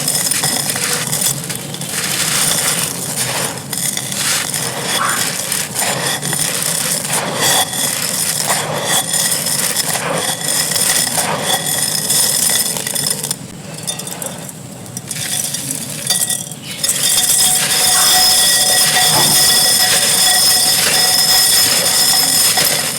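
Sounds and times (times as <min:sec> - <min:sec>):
clay and sand crunching: 0:00.0 - 0:22.9
clay fragments clinking: 0:00.0 - 0:22.9.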